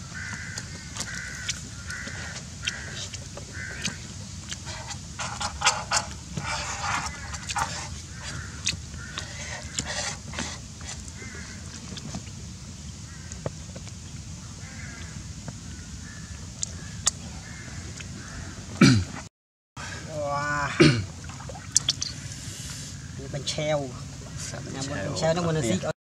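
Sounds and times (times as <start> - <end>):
bird nasal calls: 0.0 - 18.9, 20.2 - 25.1.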